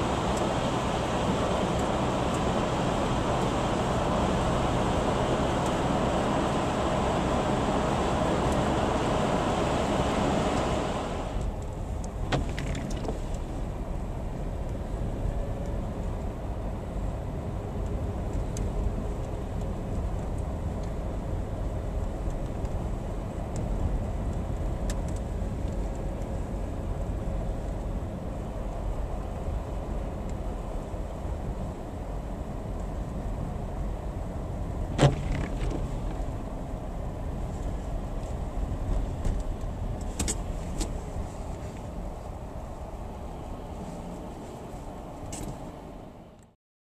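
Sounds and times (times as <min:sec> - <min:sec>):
low car rumble: 0:00.0 - 0:46.6
road and tyre noise hiss: 0:00.0 - 0:46.6.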